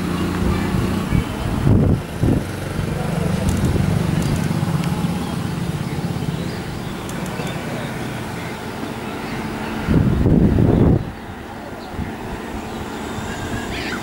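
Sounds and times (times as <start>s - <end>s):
electric locomotive humming: 0.0s - 14.0s
low rumbles: 0.0s - 14.0s.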